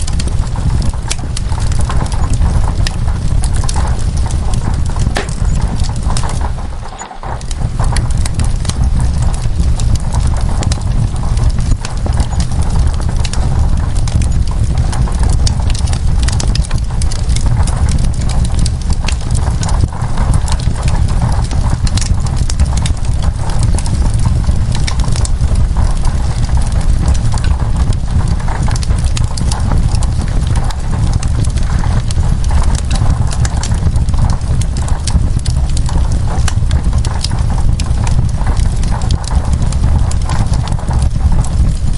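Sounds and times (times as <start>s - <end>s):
wood fire crackling: 0.0s - 41.9s
low rumble: 0.8s - 41.9s.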